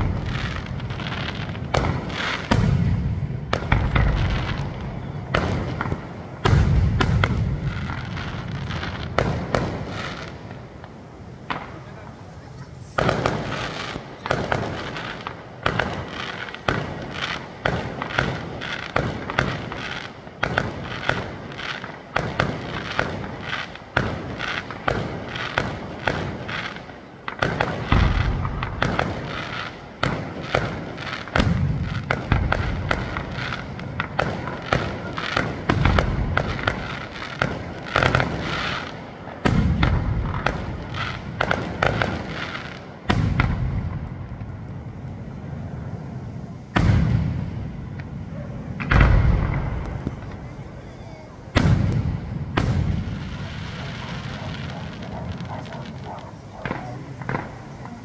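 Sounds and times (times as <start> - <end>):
deep firework booms: 0.0 - 58.0
fireworks bursting and crackling: 0.0 - 58.0.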